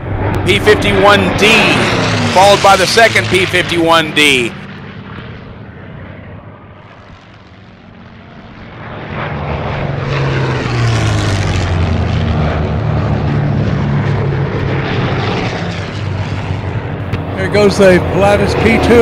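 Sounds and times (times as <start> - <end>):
propeller planes passing overhead: 0.0 - 19.0.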